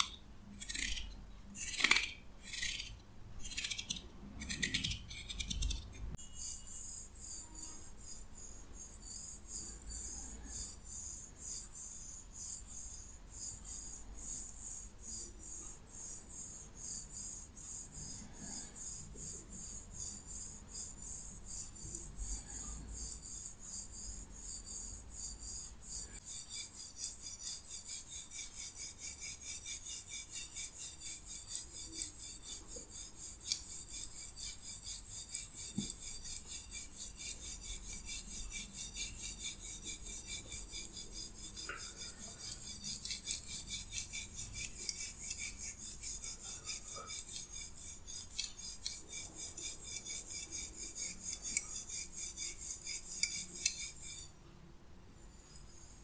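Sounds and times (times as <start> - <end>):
wire scalp massager scratching hair: 6.4 - 54.3.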